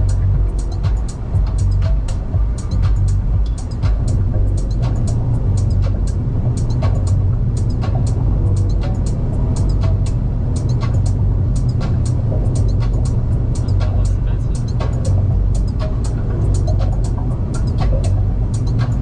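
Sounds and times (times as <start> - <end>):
car engine and road rumble: 0.0 - 19.0
music playing: 0.0 - 19.0.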